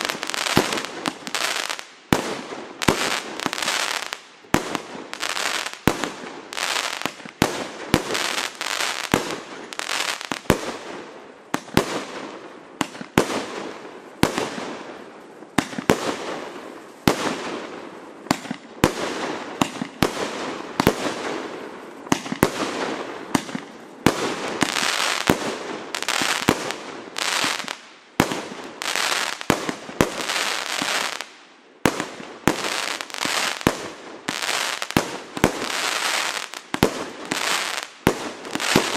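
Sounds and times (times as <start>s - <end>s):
fireworks shots: 0.0s - 38.9s.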